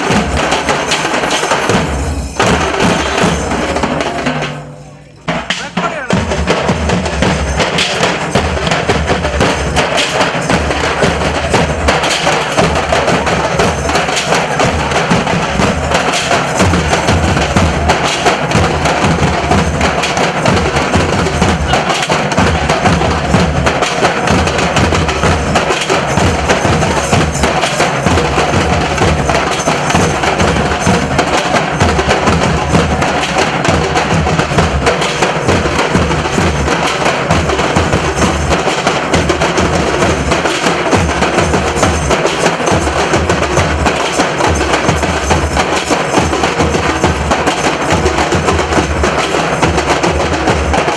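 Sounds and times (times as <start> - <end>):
fast loud drumming: 0.0 - 50.9.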